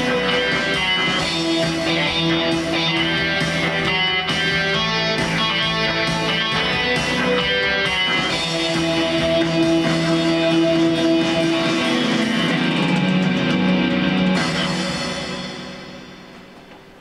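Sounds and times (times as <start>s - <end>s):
synthesizer rock outro: 0.0s - 17.0s.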